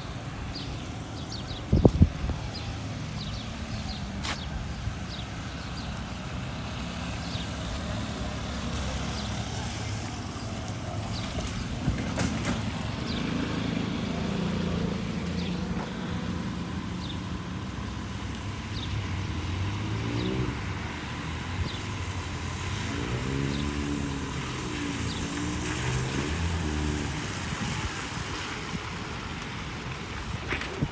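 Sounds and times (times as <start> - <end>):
car engines rumbling: 0.0 - 30.9
tyres hissing on wet road: 2.4 - 30.9.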